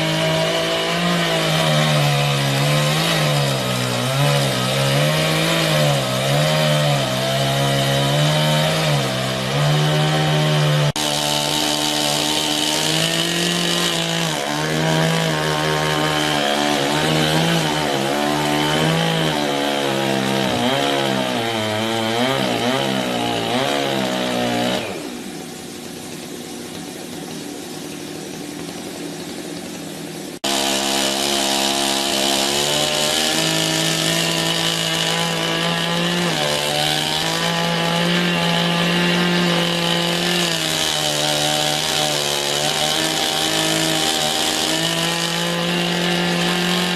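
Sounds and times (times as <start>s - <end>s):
chainsaw sawing log: 0.0s - 25.4s, 30.4s - 46.9s.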